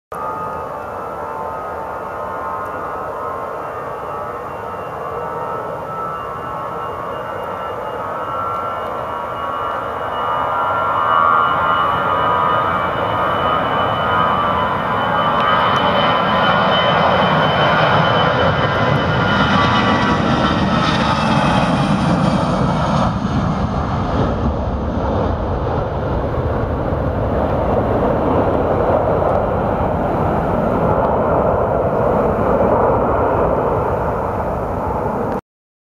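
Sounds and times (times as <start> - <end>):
jet engines roaring with fan whine: 0.1 - 35.4.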